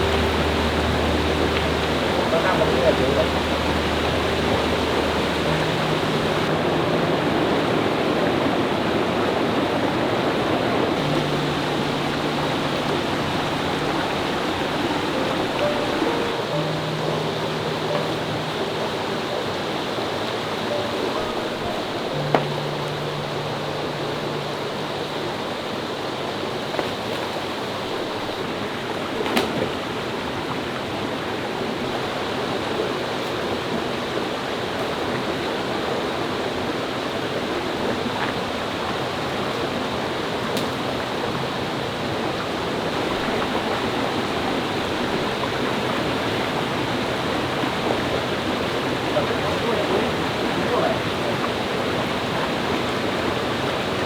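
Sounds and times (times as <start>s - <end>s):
water rushing from waterfall: 0.0s - 54.0s.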